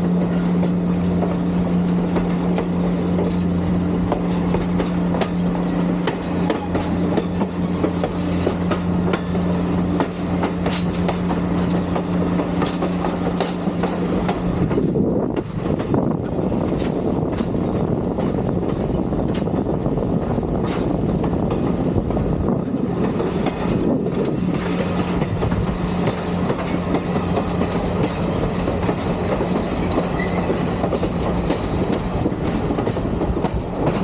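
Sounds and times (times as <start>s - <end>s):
steady train drone: 0.0s - 34.0s
train wheels clicking on rails: 0.0s - 34.0s.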